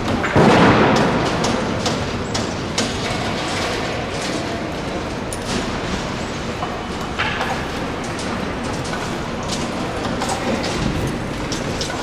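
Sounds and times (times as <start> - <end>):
machinery rumble: 0.0 - 12.0
metallic clanks and knocks: 0.0 - 12.0.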